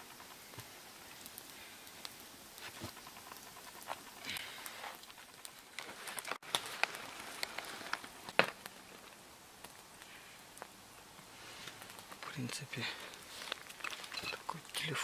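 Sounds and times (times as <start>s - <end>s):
crackles of crumbling dirt: 0.0s - 15.0s.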